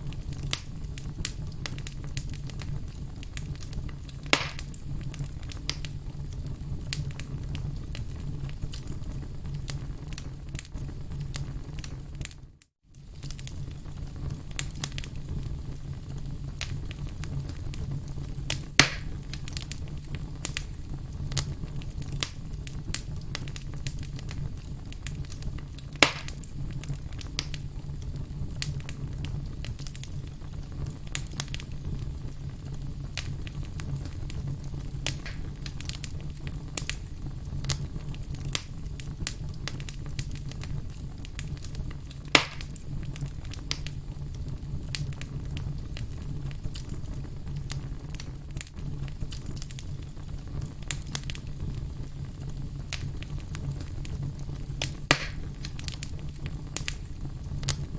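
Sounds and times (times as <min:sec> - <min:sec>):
firewood crackling and popping: 0:00.0 - 0:57.9
low rumble of fire: 0:00.0 - 0:57.9.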